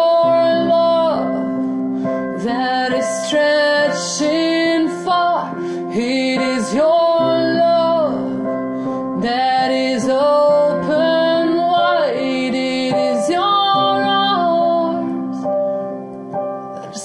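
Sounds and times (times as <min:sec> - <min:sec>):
woman singing: 0:00.0 - 0:15.6, 0:16.8 - 0:17.0
piano chords: 0:00.0 - 0:17.0.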